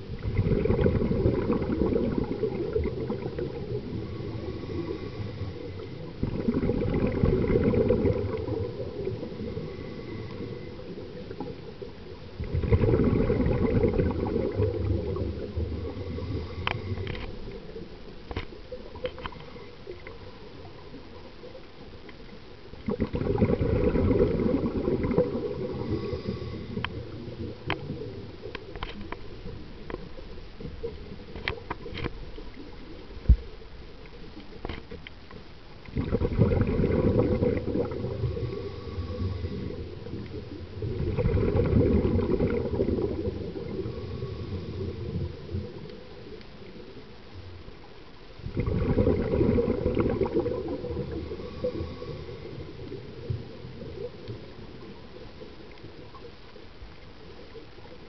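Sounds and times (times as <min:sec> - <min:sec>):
exhaled air bubbles underwater: 0:00.0 - 0:34.9, 0:35.8 - 0:58.0.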